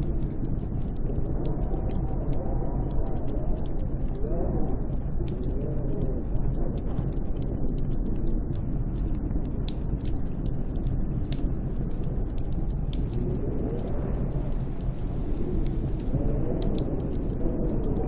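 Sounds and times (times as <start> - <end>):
crackling clicks: 0.0 - 18.0
snowstorm wind roaring: 0.0 - 18.0
whistling wind howl: 0.0 - 18.0.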